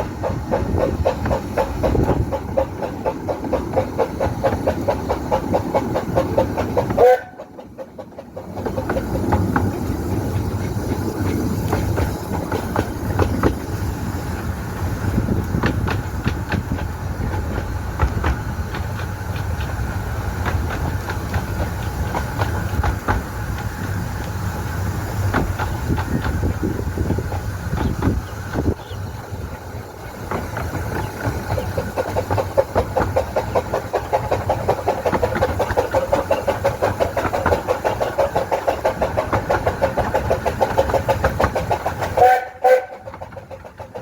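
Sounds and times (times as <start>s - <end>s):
miniature train rumbling: 0.0s - 44.0s
wheels clicking over rails: 0.0s - 44.0s.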